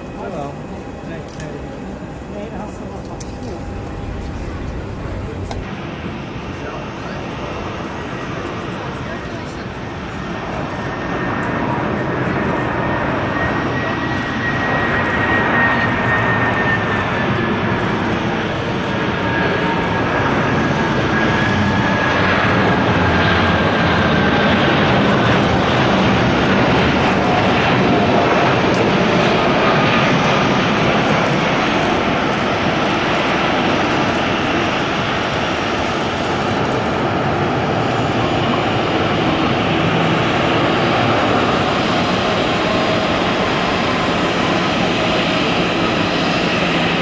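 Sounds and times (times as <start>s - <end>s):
airliner engines passing: 0.0s - 47.0s.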